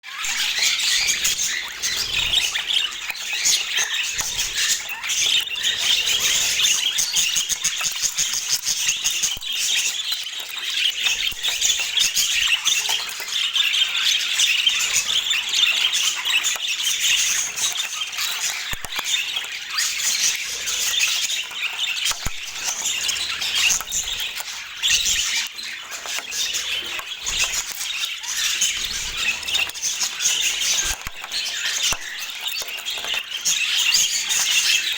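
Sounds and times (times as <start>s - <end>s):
budgerigars chattering and warbling: 0.1s - 34.9s.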